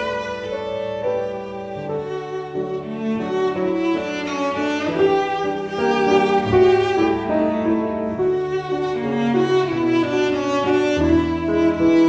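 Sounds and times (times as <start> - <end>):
slow string music: 0.0 - 12.0.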